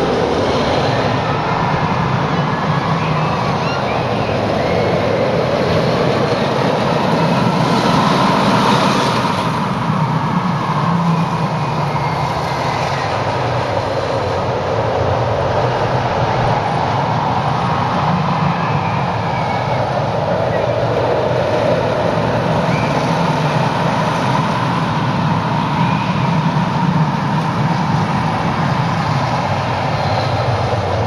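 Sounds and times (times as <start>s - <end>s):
roller coaster rumbling on track: 0.0s - 31.0s.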